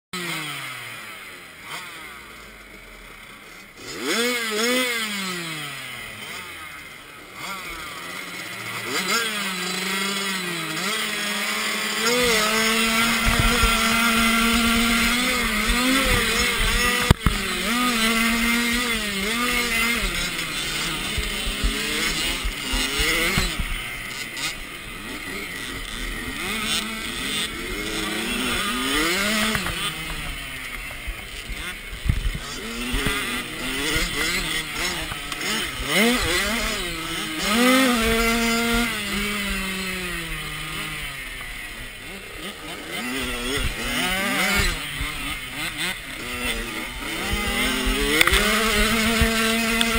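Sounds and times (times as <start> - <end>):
motocross bike engine revving: 0.1 - 49.9.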